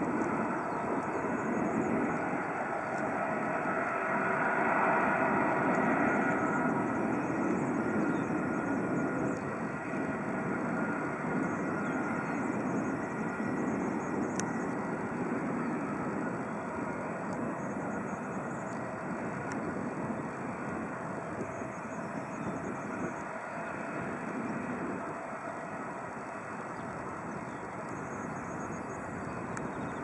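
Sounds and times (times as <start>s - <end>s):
jet engines droning with whine: 0.0s - 30.0s.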